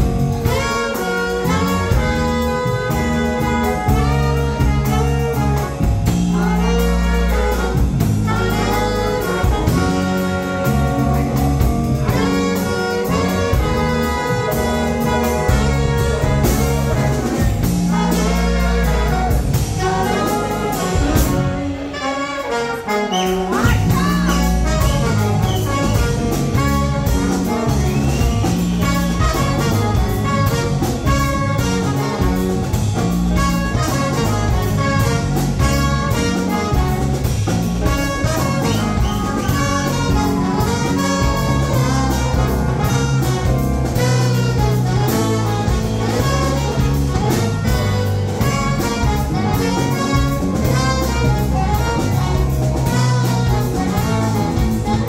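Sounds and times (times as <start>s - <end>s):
jazz band playing: 0.0s - 55.0s.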